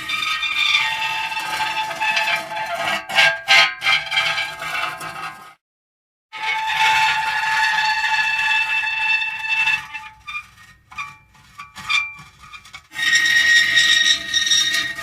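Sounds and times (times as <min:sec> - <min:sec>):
metal creaking and squealing: 0:00.0 - 0:05.5, 0:06.4 - 0:15.0.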